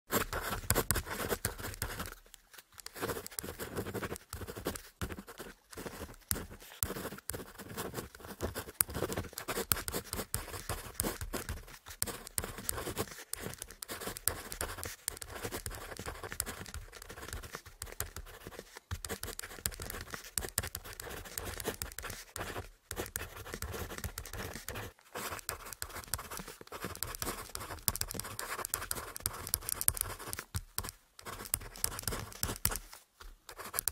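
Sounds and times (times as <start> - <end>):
ballpoint pen writing on paper: 0.1 - 33.9.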